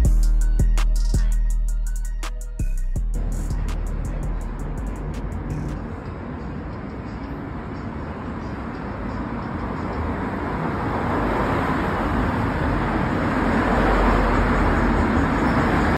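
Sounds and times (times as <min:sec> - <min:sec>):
vehicle approaching in tunnel: 0:03.0 - 0:15.9.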